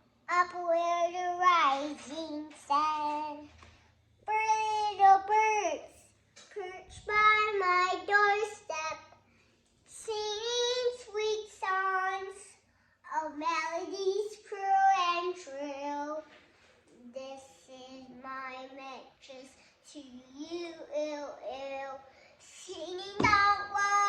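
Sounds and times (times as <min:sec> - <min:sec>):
child singing: 0:00.3 - 0:03.6, 0:04.2 - 0:09.2, 0:09.9 - 0:16.3, 0:16.9 - 0:24.0.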